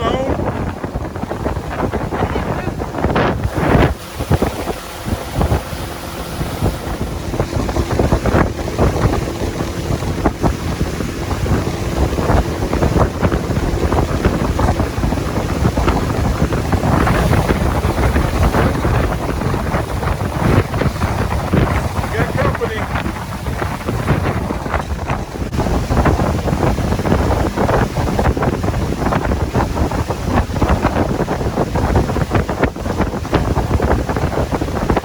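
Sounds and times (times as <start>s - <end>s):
outboard motor running: 0.0s - 35.0s
water rushing past hull: 0.0s - 35.0s
wind buffeting microphone: 0.0s - 35.0s.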